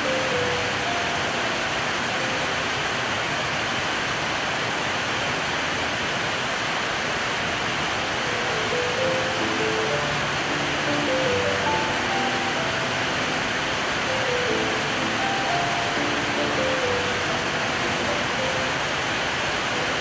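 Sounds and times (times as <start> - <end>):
rain on corrugated roof: 0.0 - 20.0
water streaming off roof: 0.0 - 20.0.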